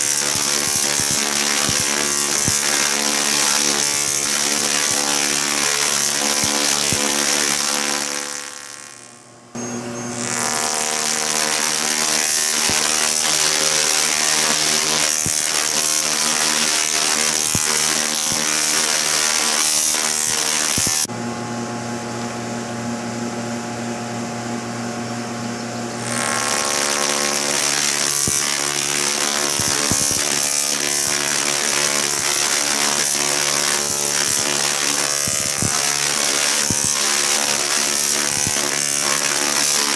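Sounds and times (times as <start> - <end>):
tesla coil electric buzz: 0.0 - 21.1, 25.9 - 39.9.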